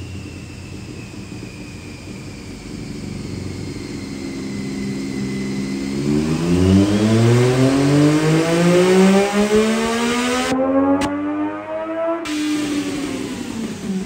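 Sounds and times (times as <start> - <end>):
motorcycle engine revving on dyno: 0.0 - 14.0.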